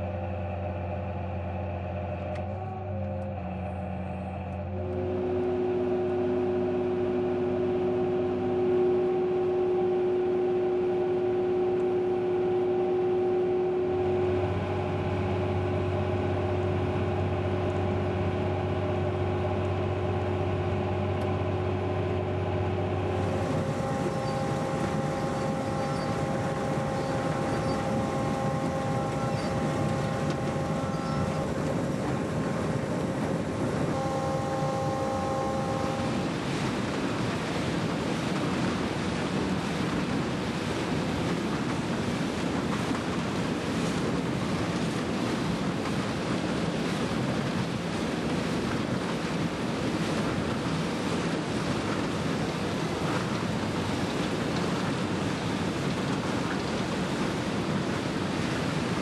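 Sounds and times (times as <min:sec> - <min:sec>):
farm machinery hum and whine: 0:00.0 - 0:59.0.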